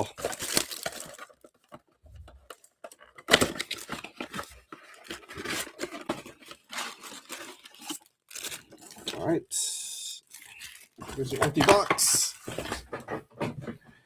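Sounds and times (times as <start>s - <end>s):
wrapper and cardboard tearing: 0.0s - 9.4s, 10.0s - 12.9s.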